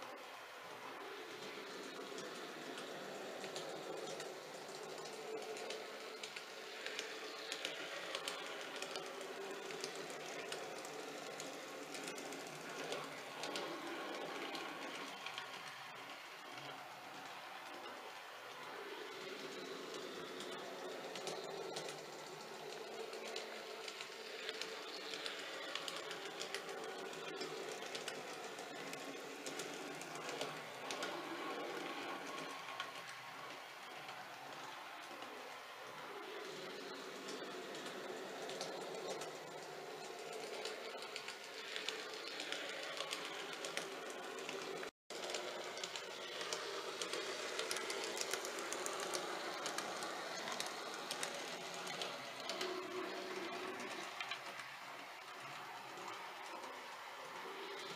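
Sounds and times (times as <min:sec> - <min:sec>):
wheels clicking on rails: 0:00.0 - 0:57.9.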